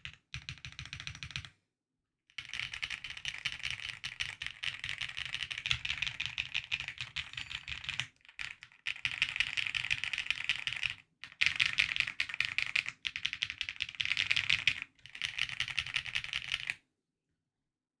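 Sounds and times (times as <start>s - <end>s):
fast typing on mechanical keyboard: 0.0s - 1.5s, 2.4s - 16.8s.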